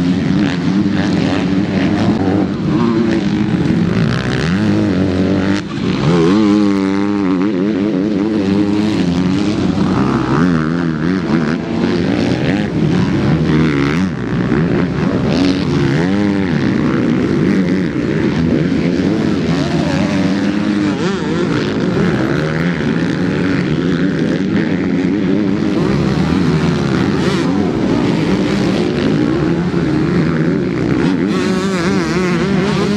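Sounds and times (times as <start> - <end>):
motocross bikes revving: 0.0 - 32.9.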